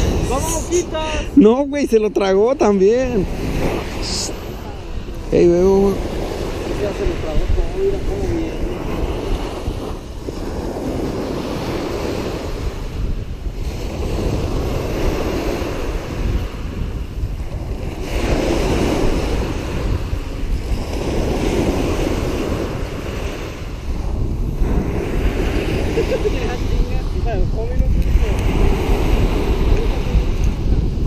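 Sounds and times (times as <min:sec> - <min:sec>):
small waves washing on shore: 0:00.0 - 0:31.0
wind gusting over microphone: 0:00.0 - 0:31.0.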